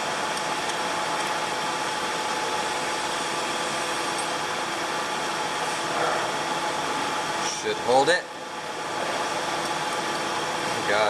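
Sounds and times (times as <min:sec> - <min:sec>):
fan blowing air: 0:00.0 - 0:11.0.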